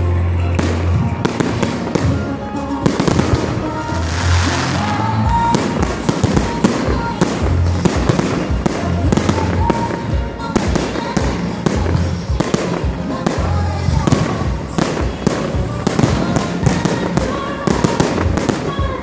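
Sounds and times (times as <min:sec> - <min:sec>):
fireworks bangs and crackles: 0:00.0 - 0:19.0
loud music with bass line: 0:00.0 - 0:19.0.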